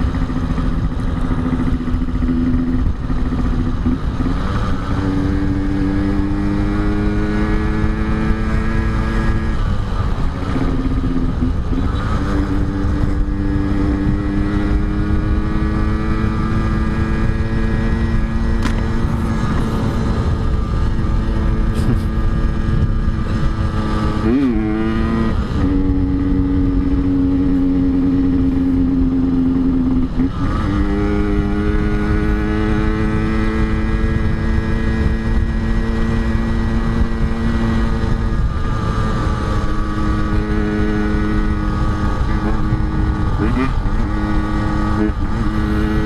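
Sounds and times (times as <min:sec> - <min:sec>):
low wind noise rumble: 0:00.0 - 0:46.0
two-stroke motorcycle engine running: 0:00.0 - 0:46.0.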